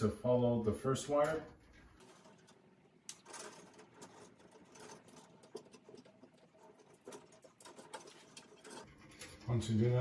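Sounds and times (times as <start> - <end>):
electrical wires rustling and clicking: 0.8 - 10.0.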